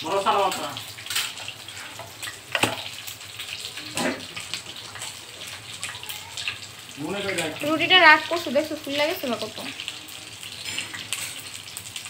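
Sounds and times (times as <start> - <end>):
bread hissing in a frying pan: 0.0 - 12.0.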